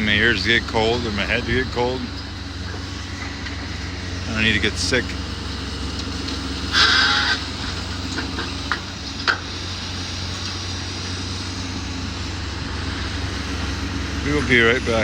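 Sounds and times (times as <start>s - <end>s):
demolition machine engine running: 0.0s - 15.0s.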